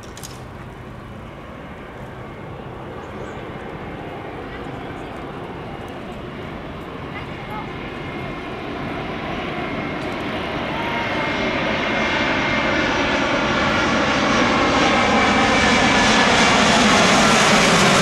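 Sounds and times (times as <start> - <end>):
jet engines whining on approach: 0.0 - 18.0.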